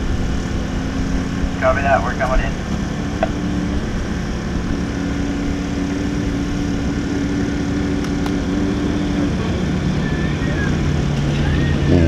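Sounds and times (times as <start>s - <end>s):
road and drivetrain rumble: 0.0s - 12.0s
truck engine running steadily: 0.0s - 12.0s.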